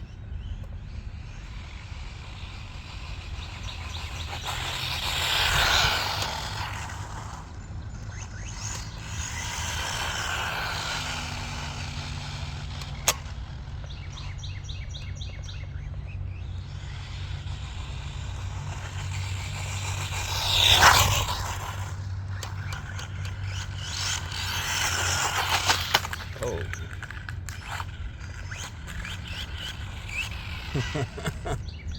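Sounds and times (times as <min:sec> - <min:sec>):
rc truck electric motor whine: 0:00.0 - 0:31.9.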